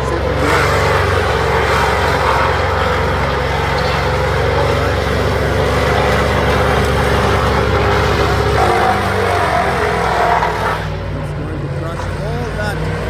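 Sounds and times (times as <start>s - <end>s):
large engine droning: 0.0s - 13.0s.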